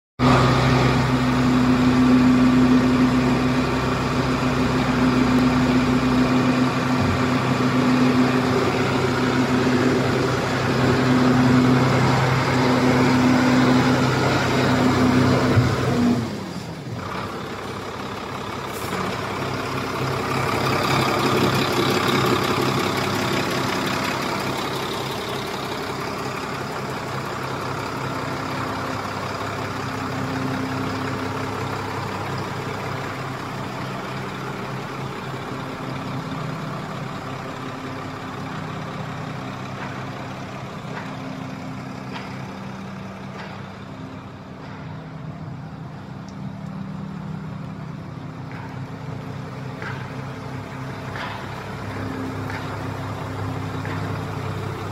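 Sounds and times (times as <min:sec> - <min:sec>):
diesel truck engine idling: 0:00.2 - 0:54.9
quieter engine running: 0:00.2 - 0:54.9.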